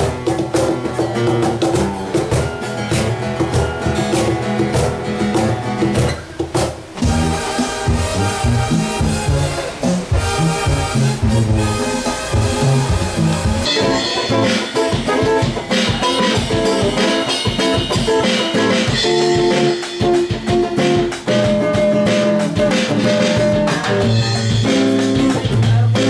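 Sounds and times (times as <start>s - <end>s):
acoustic guitar strumming: 0.0s - 26.0s
drum kit playing: 0.0s - 26.0s
music with a bass line: 0.0s - 26.0s.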